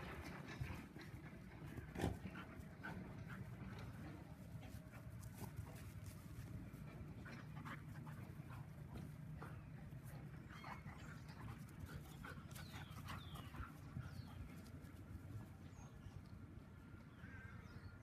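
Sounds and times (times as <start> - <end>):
dogs panting: 0.0 - 16.5.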